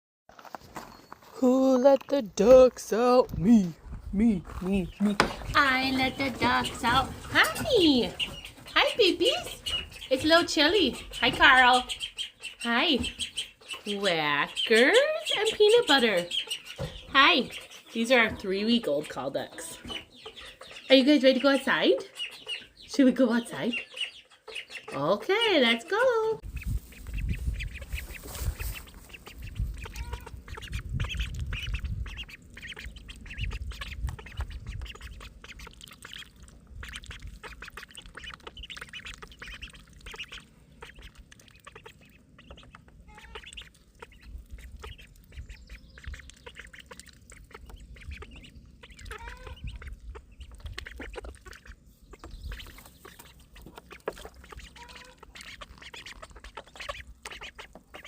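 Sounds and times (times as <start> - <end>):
ducklings peeping and quacking: 0.8 - 58.0.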